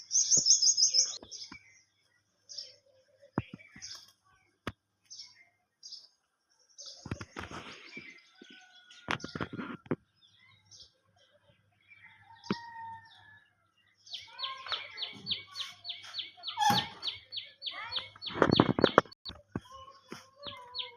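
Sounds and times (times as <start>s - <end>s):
birds chirping and calling: 0.0s - 20.9s.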